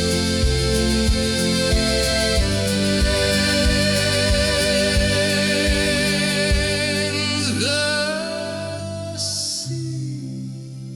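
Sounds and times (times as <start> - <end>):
sustained chords over steady beat: 0.0 - 9.0
folk ballad song: 0.0 - 10.8.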